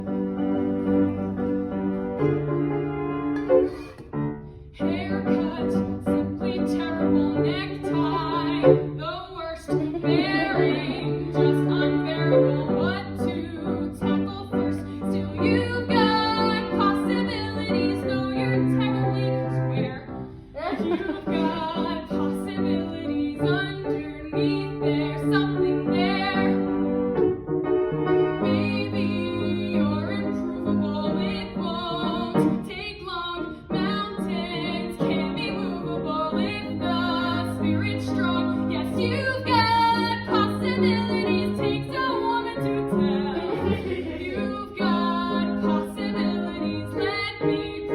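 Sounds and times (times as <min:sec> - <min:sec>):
piano accompaniment: 0:00.0 - 0:47.9
young woman singing: 0:04.8 - 0:26.6, 0:28.4 - 0:47.9.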